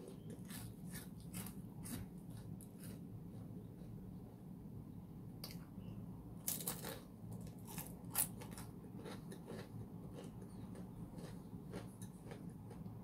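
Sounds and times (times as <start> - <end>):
crunchy waffle chewing: 0.0 - 4.2, 6.5 - 13.0.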